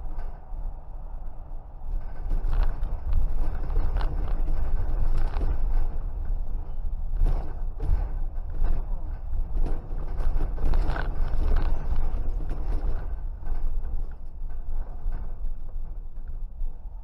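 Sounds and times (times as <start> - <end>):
car road and engine noise: 0.0 - 17.0
light knocks and rattles: 0.0 - 17.0.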